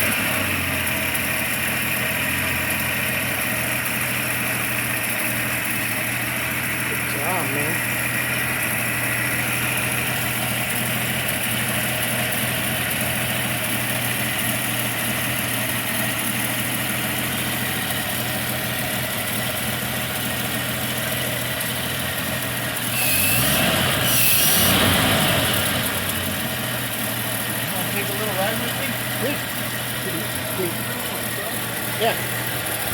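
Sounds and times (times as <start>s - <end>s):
truck engine idling and revving: 0.0s - 32.9s.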